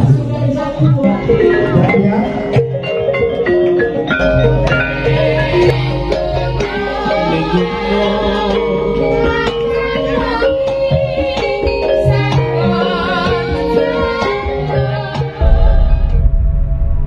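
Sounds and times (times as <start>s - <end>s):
women singing together: 0.0s - 2.6s, 4.7s - 16.1s
gamelan ensemble: 0.0s - 16.3s.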